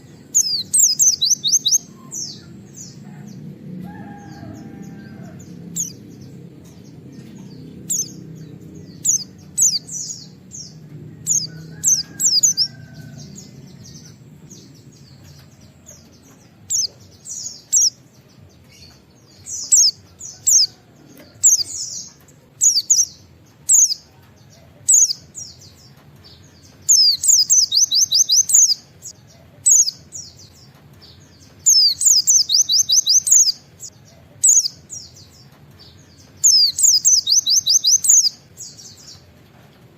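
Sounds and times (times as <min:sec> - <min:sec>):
bird chirping: 0:00.0 - 0:39.3.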